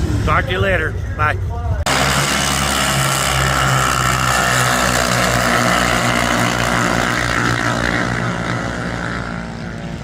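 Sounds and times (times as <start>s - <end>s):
vehicle engine throbbing: 0.0s - 10.0s.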